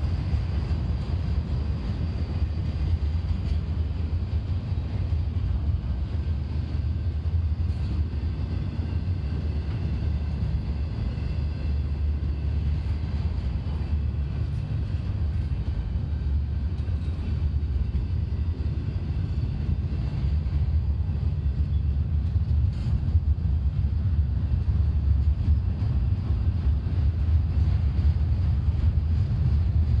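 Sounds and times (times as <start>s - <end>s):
freight cars rumbling on rails: 0.0s - 30.0s
wheels clicking over rail joints: 0.0s - 30.0s.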